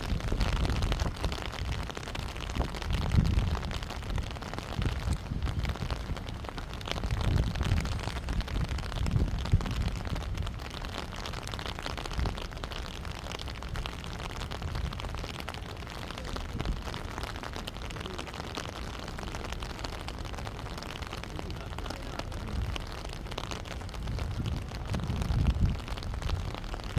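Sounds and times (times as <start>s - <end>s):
wind buffeting microphone: 0.0s - 15.5s, 20.2s - 26.9s.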